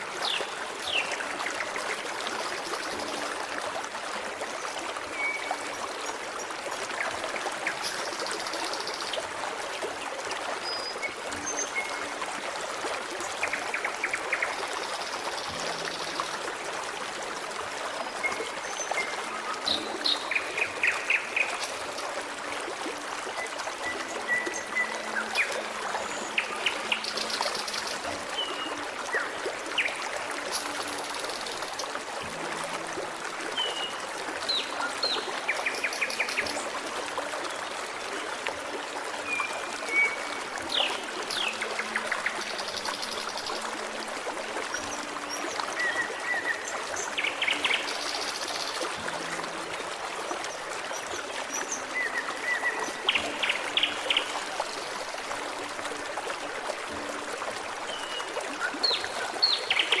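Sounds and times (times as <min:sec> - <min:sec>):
stream trickling and babbling: 0:00.0 - 1:00.0.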